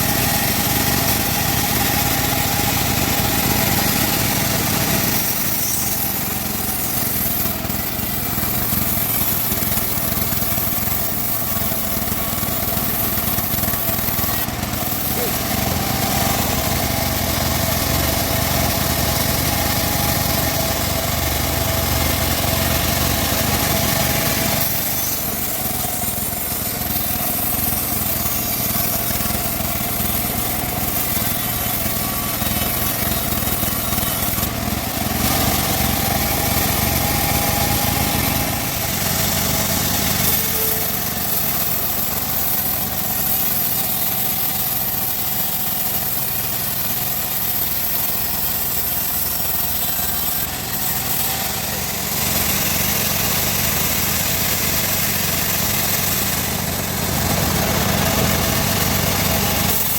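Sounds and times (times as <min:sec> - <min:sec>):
band saw cutting wood: 0:00.0 - 0:59.9.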